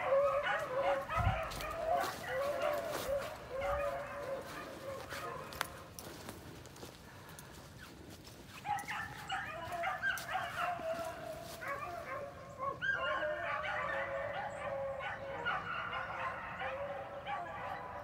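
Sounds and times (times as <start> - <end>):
hounds baying: 0.0 - 7.6, 8.3 - 18.0.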